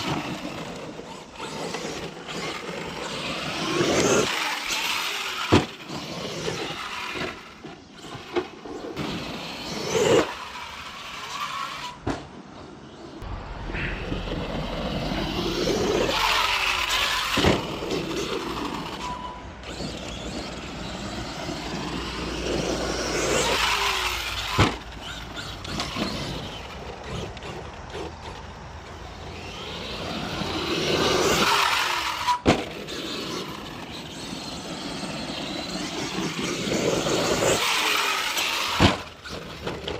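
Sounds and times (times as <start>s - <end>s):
rc truck motor whining: 0.0s - 39.9s.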